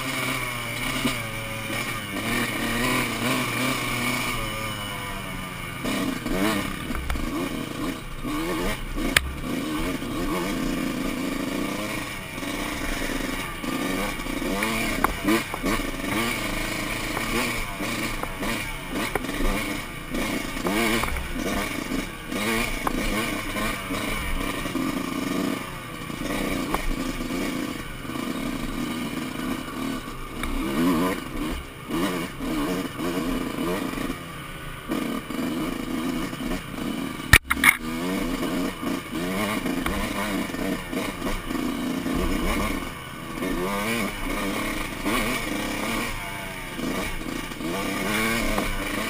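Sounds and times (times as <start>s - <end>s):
two-stroke motorcycle engine revving: 0.0s - 49.0s.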